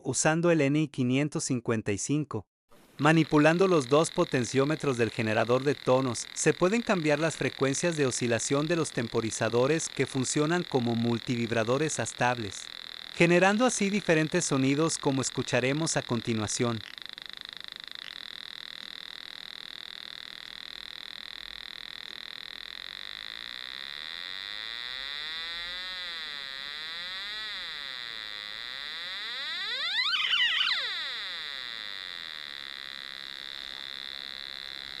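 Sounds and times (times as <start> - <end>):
electronic rattling buzz gliding: 3.1 - 35.0.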